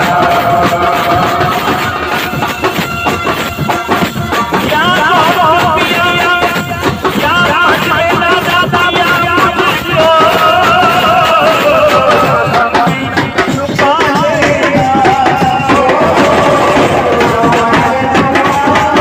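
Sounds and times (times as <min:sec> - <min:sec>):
amplified music with drum beat: 0:00.0 - 0:19.0
man singing with ornaments: 0:00.0 - 0:19.0.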